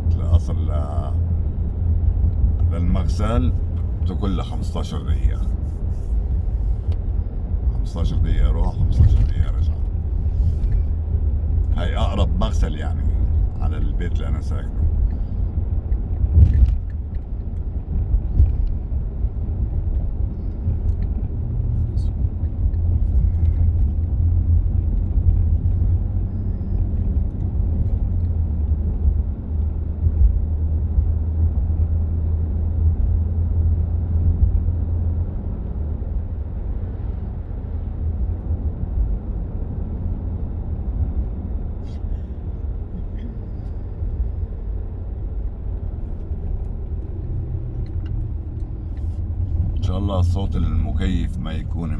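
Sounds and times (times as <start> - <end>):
air-conditioning fan running: 0.0 - 51.9
engine and road rumble: 0.0 - 51.9.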